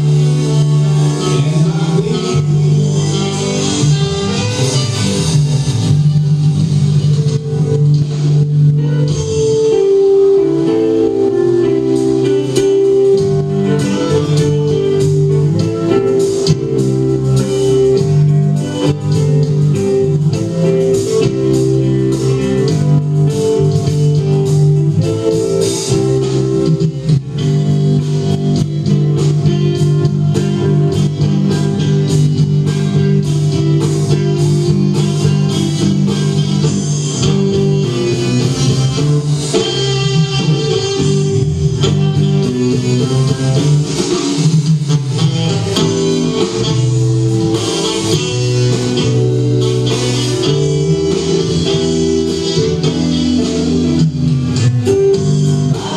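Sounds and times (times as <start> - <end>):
guitar playing: 0.0 - 55.9
held bass notes: 0.0 - 55.9
steady drum beat: 0.0 - 55.9.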